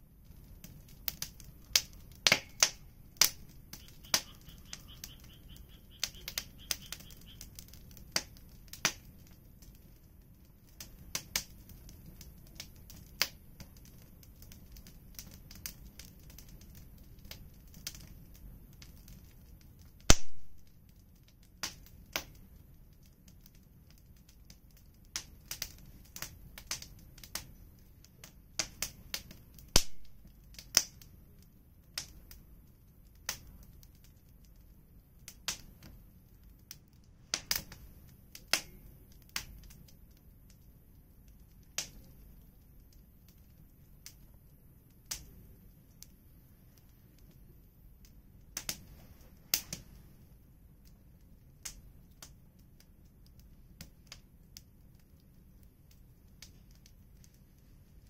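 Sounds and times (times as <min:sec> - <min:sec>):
fire pops: 0:00.0 - 0:58.0
wood fire crackling: 0:00.0 - 0:58.0.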